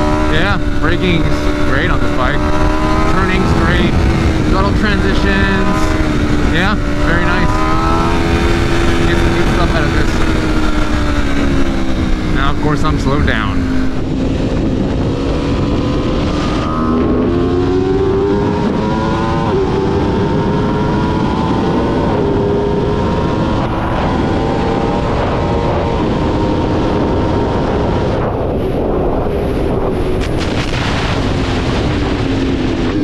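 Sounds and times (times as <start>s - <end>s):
motorcycle engine revving: 0.0s - 33.0s
wind rushing: 0.0s - 33.0s.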